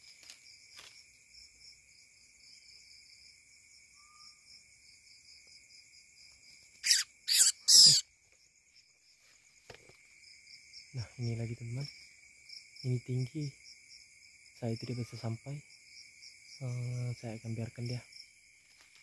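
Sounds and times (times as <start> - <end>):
crickets and insects chirping: 0.0 - 19.0.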